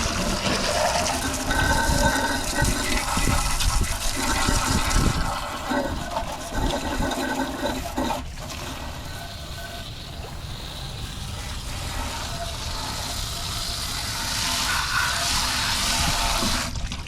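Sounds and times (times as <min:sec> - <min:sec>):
water splashing from a hose: 0:00.0 - 0:17.0.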